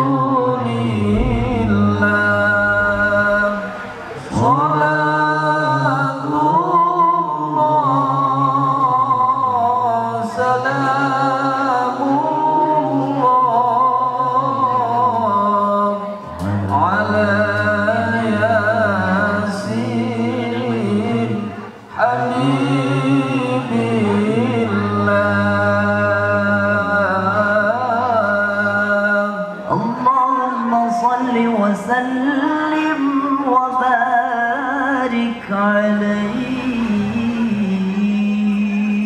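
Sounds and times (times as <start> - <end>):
man chanting recitation: 0.0 - 39.0.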